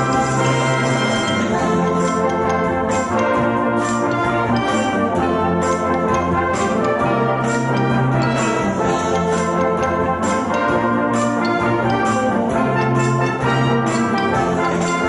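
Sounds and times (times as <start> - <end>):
brass band playing: 0.0 - 15.0
drum kit steady beat: 0.0 - 15.0.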